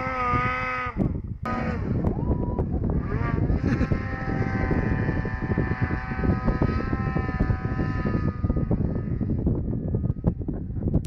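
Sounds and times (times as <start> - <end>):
snowmobile engine revving high: 0.0 - 10.2
loud low rumble: 1.3 - 11.0.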